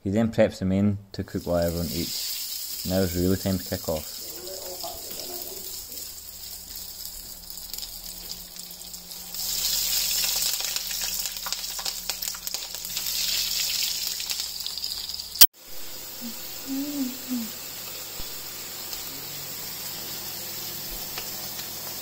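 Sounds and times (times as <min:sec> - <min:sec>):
food sizzling in hot oil: 0:01.4 - 0:22.0.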